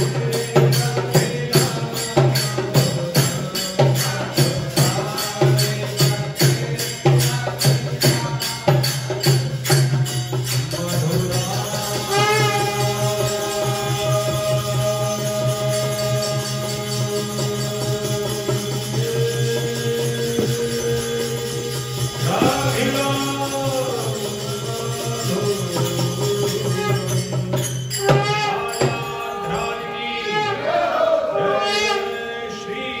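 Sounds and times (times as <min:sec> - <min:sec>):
jingling percussion: 0:00.0 - 0:33.0
voices singing a hymn: 0:00.0 - 0:33.0.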